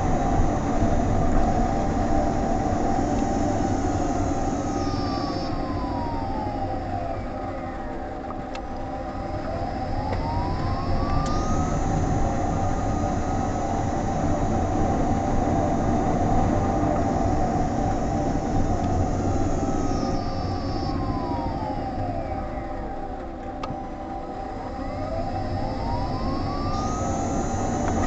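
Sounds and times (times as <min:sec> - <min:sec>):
electric drive whine: 0:00.0 - 0:28.0
road rumble: 0:00.0 - 0:28.0.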